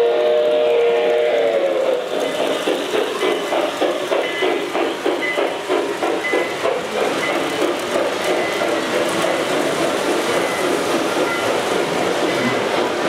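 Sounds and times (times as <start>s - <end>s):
model train wheels on rails: 0.0s - 13.0s.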